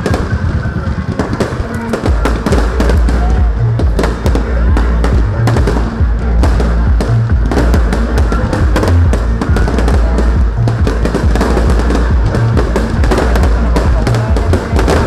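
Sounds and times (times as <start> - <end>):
fireworks bangs and crackles: 0.0 - 15.0
music with heavy bass beat: 0.0 - 15.0.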